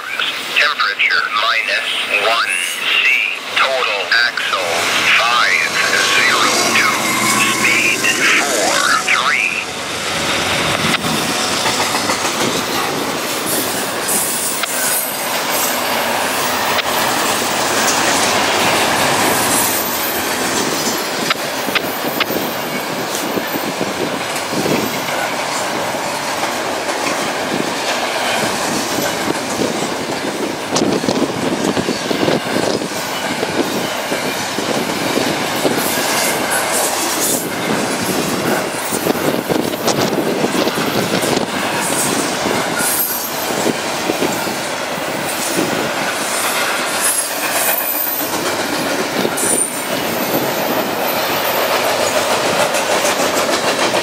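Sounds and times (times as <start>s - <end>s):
train wheels rumbling on rail: 4.4s - 54.0s.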